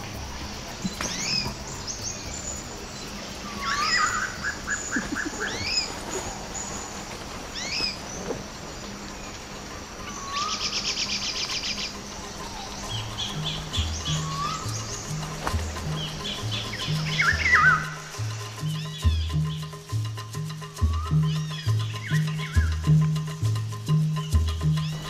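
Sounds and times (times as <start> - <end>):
birds whistling downward notes: 0.0 - 25.0
fast bird trill: 0.6 - 8.2, 10.0 - 25.0.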